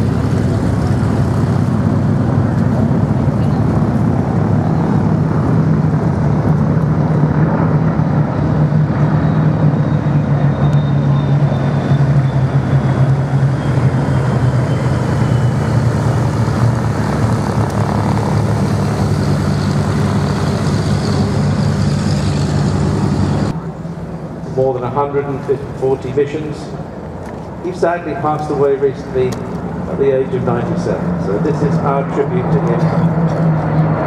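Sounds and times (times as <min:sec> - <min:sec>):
piston aircraft droning past: 0:00.0 - 0:34.0.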